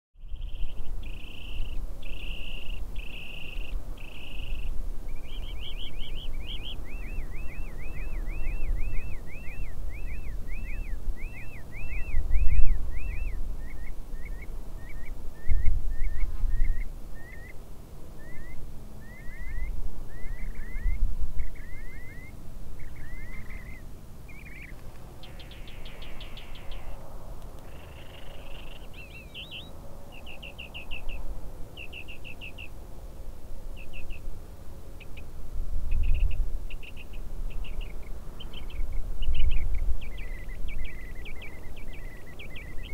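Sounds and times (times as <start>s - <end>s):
bird chirping: 0.2s - 17.6s, 18.2s - 32.8s, 33.7s - 34.3s, 35.0s - 35.3s, 35.9s - 42.9s.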